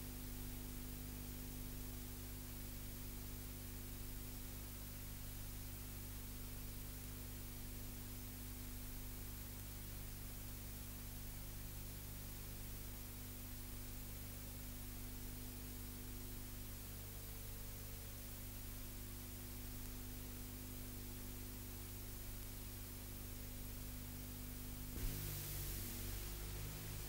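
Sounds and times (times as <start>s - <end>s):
faint steady hiss: 0.0s - 27.0s
low electrical hum: 0.0s - 27.0s.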